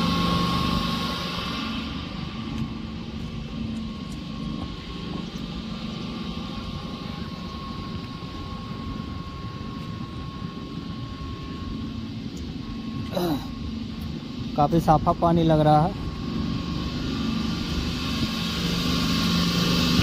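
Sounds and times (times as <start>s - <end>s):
water pump humming: 0.0s - 20.0s.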